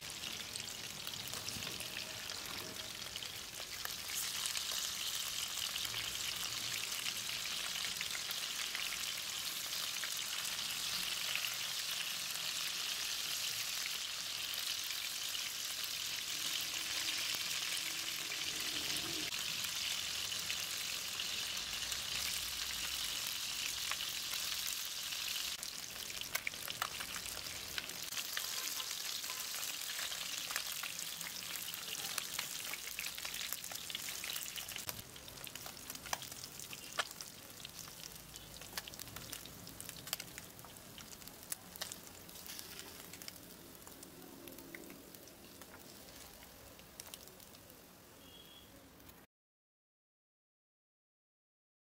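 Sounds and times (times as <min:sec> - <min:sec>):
oil crackles and pops: 0:00.0 - 0:48.4, 0:49.0 - 0:49.3
fish sizzling in hot oil: 0:00.0 - 0:48.7.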